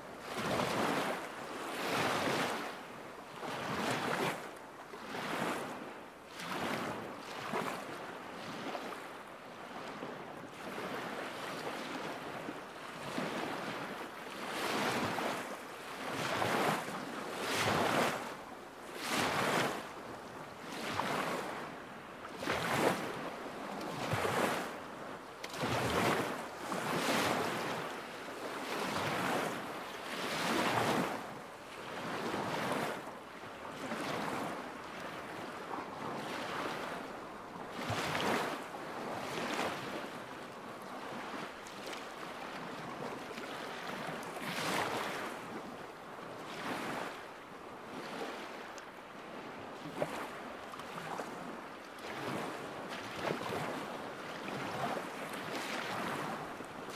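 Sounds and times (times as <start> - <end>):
lake waves lapping shore: 0.0 - 56.9.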